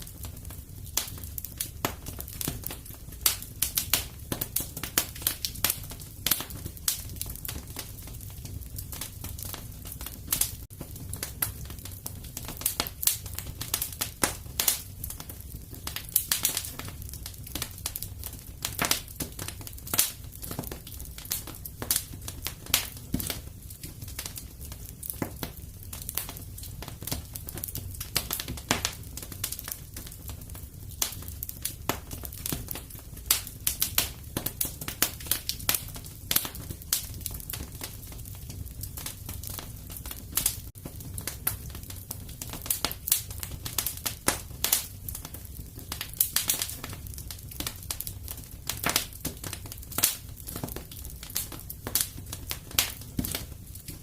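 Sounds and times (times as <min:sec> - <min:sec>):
low steady fire rumble: 0:00.0 - 0:54.0
wood fire crackling and popping: 0:00.0 - 0:54.0.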